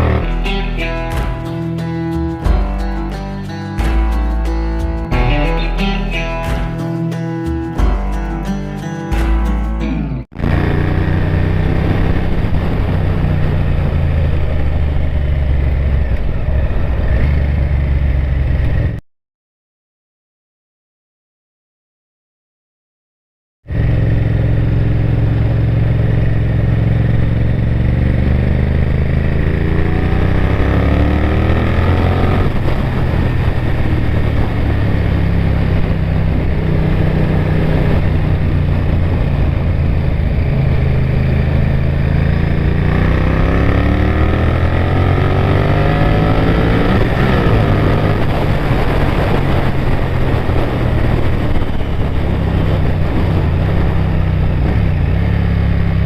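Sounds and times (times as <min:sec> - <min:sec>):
motorcycle engine accelerating: 0:00.0 - 0:19.0, 0:23.7 - 0:56.0.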